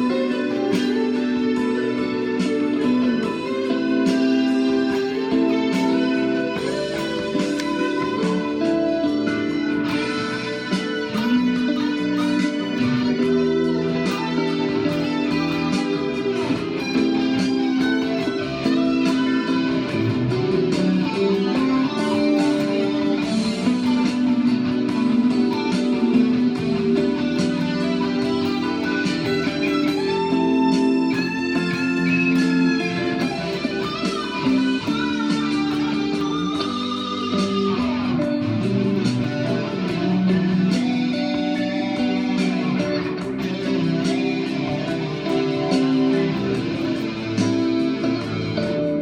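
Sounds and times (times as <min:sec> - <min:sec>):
plucked guitar notes: 0:00.0 - 0:49.0.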